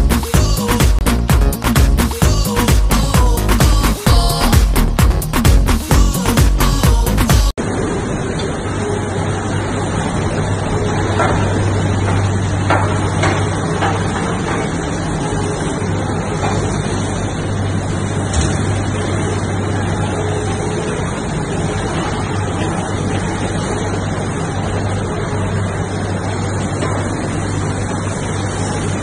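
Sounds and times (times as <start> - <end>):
crusher and conveyor rumbling: 0.0 - 29.0.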